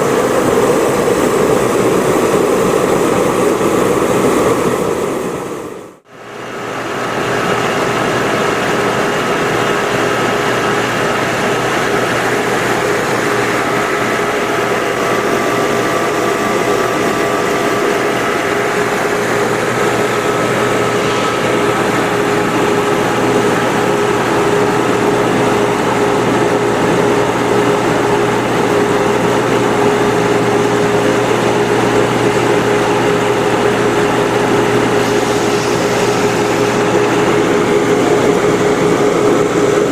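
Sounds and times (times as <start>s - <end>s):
machine humming with hiss: 0.0s - 39.9s.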